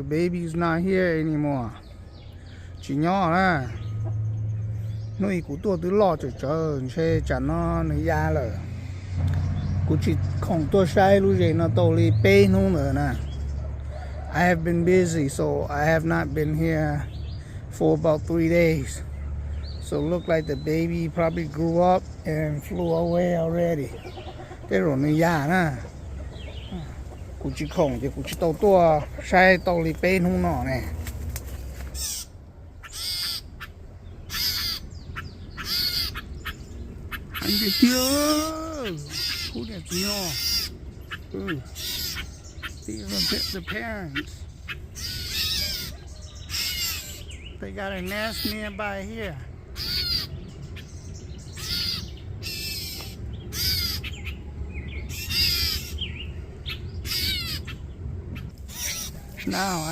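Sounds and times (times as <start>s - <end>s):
birds harsh scolding calls: 0.0s - 59.9s.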